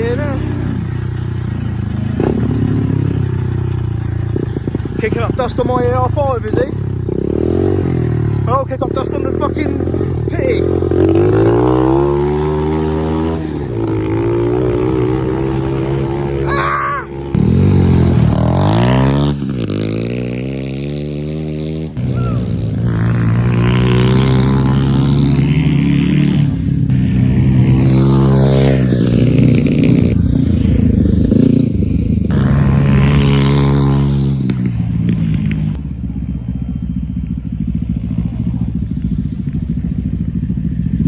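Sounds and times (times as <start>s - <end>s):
small motorcycle engine revving: 0.0s - 35.8s, 36.4s - 41.0s.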